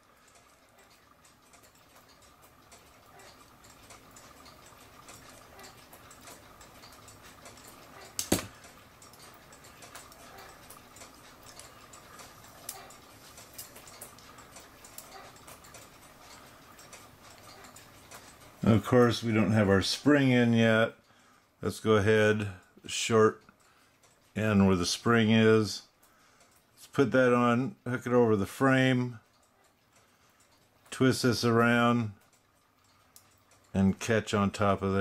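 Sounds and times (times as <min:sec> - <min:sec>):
clock ticking and clicks: 0:00.0 - 0:21.3, 0:22.3 - 0:35.0.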